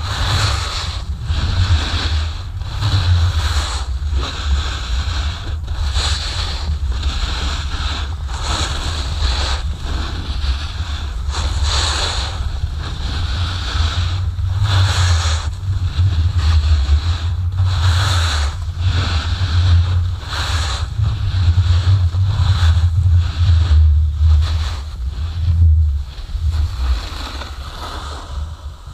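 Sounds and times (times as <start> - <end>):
snowboard carving on snow: 0.0 - 28.9
wind buffeting microphone: 0.0 - 28.9.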